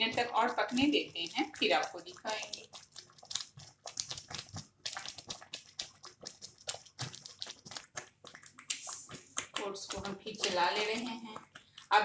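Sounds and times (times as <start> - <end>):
thick porridge bubbles popping: 0.0 - 12.0.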